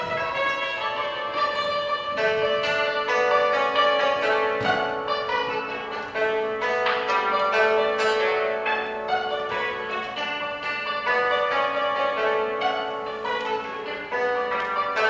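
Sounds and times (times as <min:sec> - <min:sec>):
hammered dulcimer melody: 0:00.0 - 0:15.0.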